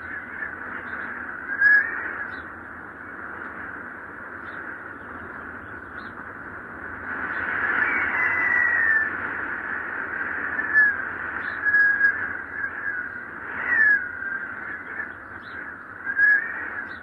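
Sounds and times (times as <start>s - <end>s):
strong wind whistling: 0.0s - 17.0s
wind gusts: 0.0s - 17.0s.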